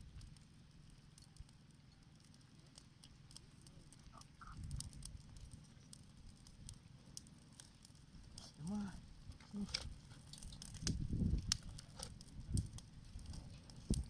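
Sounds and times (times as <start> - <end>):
campfire crackling faintly: 0.0 - 14.0.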